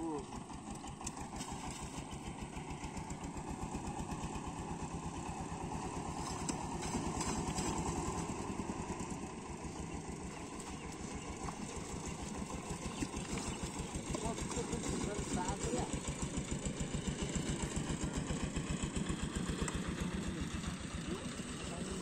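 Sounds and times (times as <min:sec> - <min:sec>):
engine chugging: 0:00.0 - 0:22.0.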